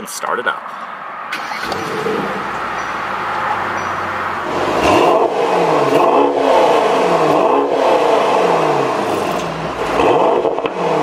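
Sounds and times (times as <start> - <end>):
car engine revving: 1.3 - 11.0.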